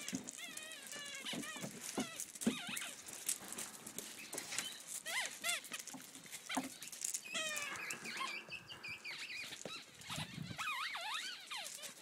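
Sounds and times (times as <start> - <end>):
paws scuffling on gravel: 0.0 - 12.0
puppies yipping and whining: 0.0 - 12.0.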